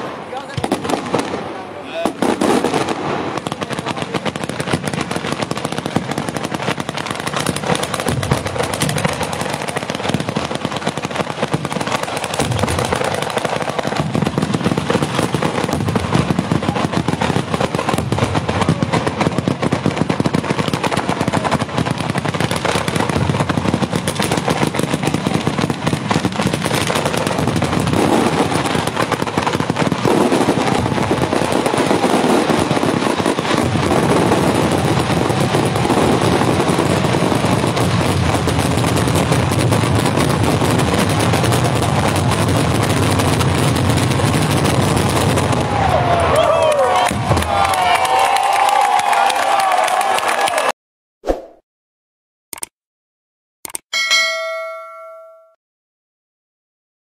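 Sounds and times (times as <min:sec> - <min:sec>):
firework shells bursting overhead: 0:00.0 - 0:49.0
fireworks bangs and crackles: 0:00.0 - 0:50.7.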